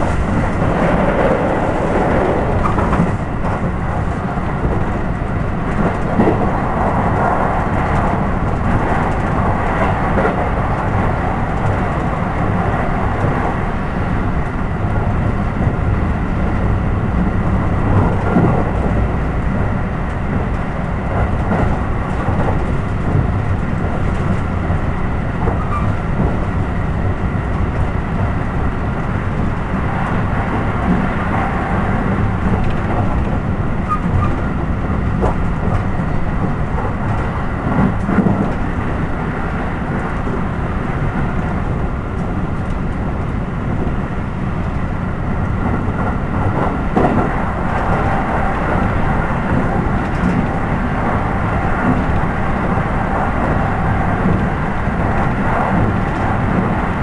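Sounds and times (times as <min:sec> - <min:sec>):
train rumbling inside carriage: 0:00.0 - 0:57.0.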